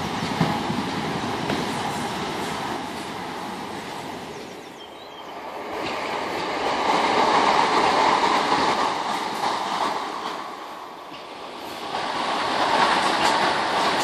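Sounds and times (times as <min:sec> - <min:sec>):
electric train passing: 0:00.0 - 0:14.0
wheel and rail noise: 0:00.0 - 0:14.0.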